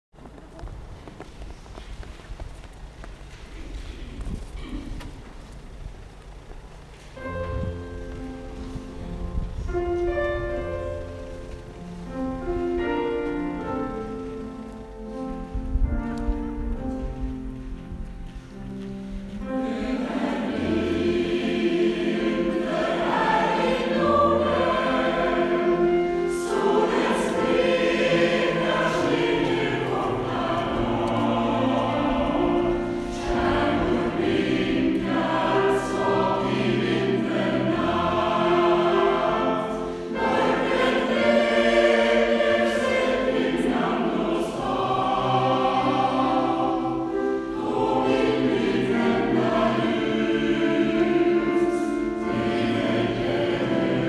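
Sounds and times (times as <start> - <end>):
low held organ notes: 0.1 - 54.0
congregation singing a hymn: 7.1 - 54.0.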